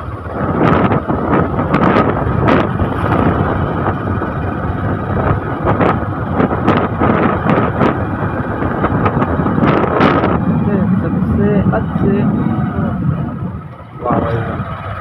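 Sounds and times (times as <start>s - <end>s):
vehicle rumble on rough road: 0.0s - 15.0s
wind buffeting microphone: 0.0s - 15.0s.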